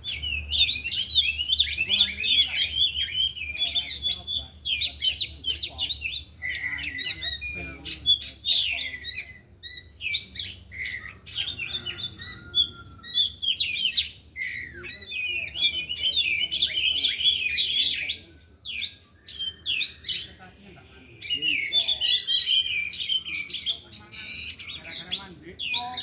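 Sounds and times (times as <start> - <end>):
birds singing: 0.0 - 26.0.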